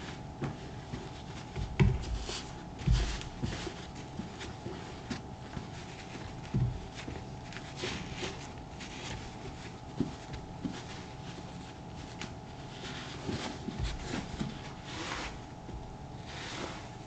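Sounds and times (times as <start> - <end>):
scrubbing leather swishes: 0.0 - 17.0.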